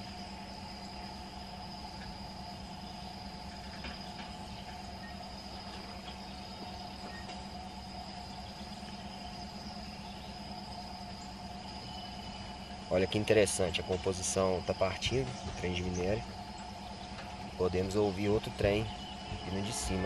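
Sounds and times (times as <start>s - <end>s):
distant diesel locomotives humming: 0.0s - 20.0s
high insect buzz: 0.0s - 20.0s.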